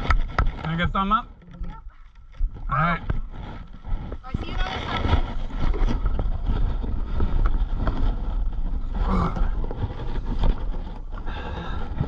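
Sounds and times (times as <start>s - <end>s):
knocks and rustles: 0.0s - 12.0s
microphone handling noise: 0.0s - 12.0s
wind rumble: 0.0s - 12.0s.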